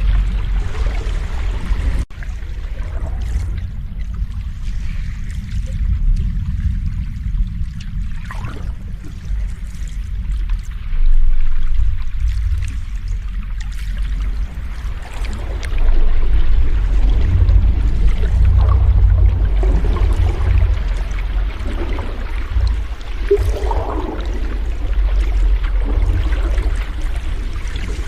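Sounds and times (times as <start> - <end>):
sea waves with low rumble: 0.0 - 28.0.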